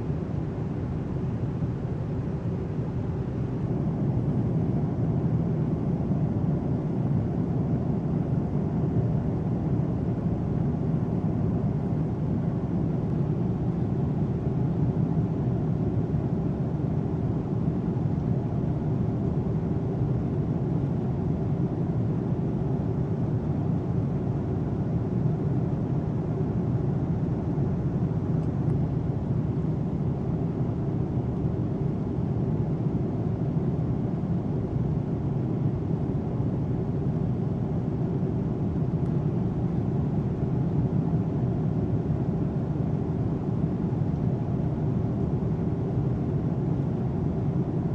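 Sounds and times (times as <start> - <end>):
jet aircraft rumble: 0.0 - 16.6, 17.2 - 47.9.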